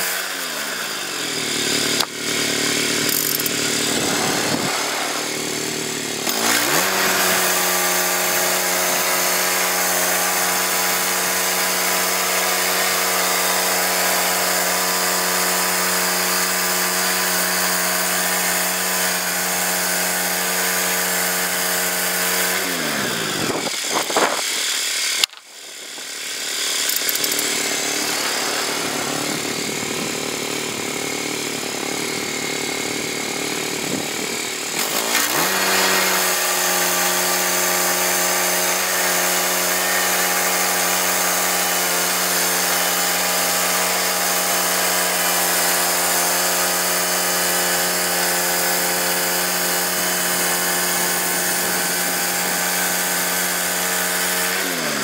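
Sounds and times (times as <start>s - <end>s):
band blade sawing log: 0.0s - 55.0s
gas engine of bandsaw mill: 0.0s - 55.0s.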